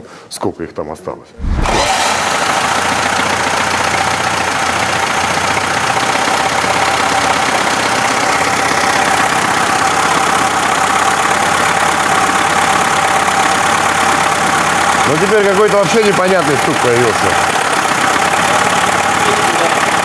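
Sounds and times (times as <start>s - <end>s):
car engine idling: 1.6s - 20.0s.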